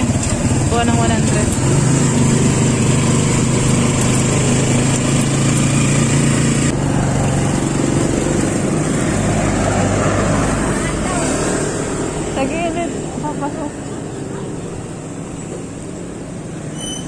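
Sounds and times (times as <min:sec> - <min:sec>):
vehicle engine running: 0:00.0 - 0:16.6.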